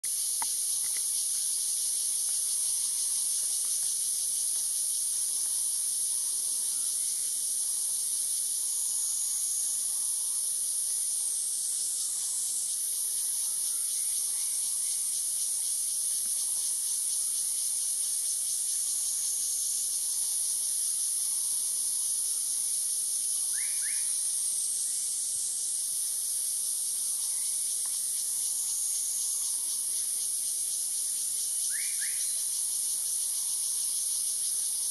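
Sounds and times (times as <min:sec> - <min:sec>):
insect chorus drone: 0:00.0 - 0:34.9.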